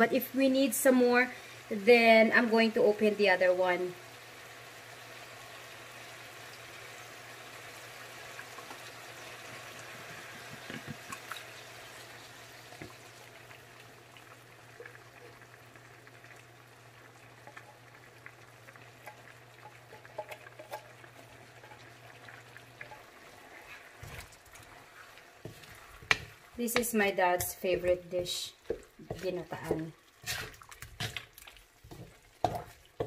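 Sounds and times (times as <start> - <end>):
pot bubbling and sizzling: 0.0 - 33.0.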